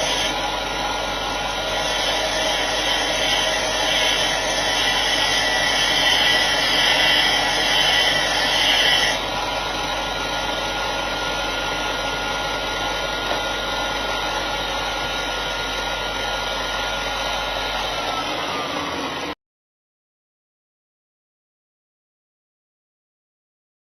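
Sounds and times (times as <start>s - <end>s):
harsh high grinding sound: 0.0s - 19.2s
bench grinder motor whine: 0.0s - 19.4s.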